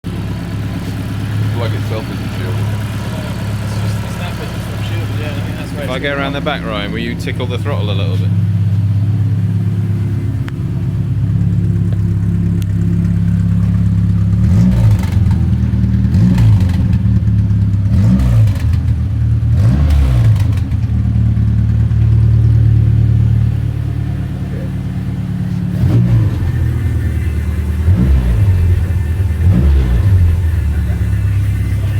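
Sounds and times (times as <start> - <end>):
race car engine idling and revving: 0.0 - 31.9.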